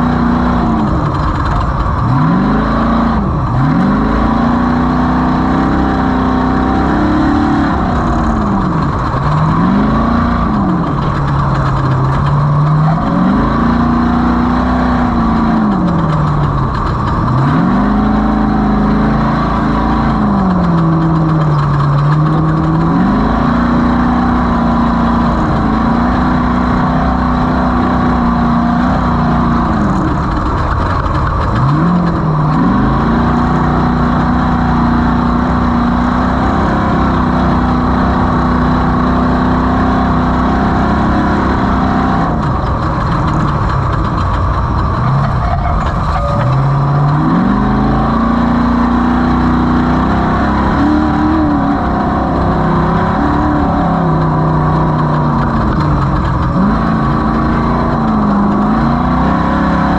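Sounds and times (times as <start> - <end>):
race vehicle engine running hard: 0.0 - 59.9.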